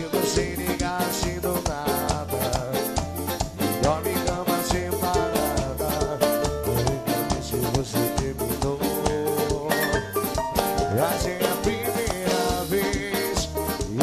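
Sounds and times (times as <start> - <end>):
fast drum beat: 0.0 - 14.0
instrumental band music: 0.0 - 14.0.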